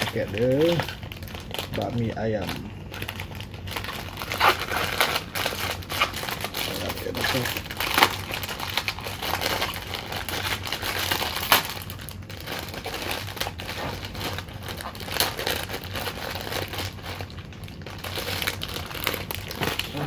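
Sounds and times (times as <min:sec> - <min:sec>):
plastic packet crinkling: 0:00.0 - 0:20.0.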